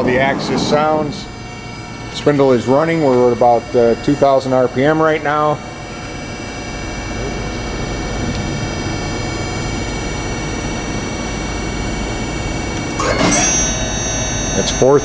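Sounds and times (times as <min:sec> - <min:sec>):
machine spindle whining: 0:00.0 - 0:15.0.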